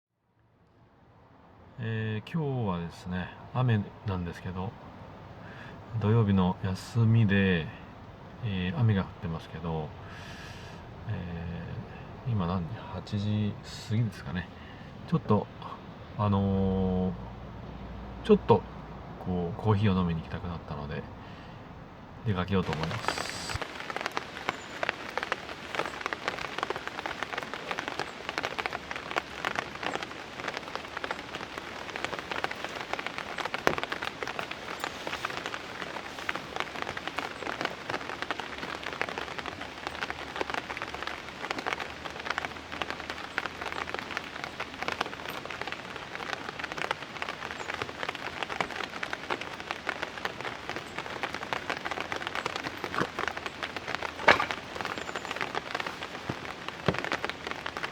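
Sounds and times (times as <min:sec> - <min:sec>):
rain falling: 0:00.6 - 0:57.9.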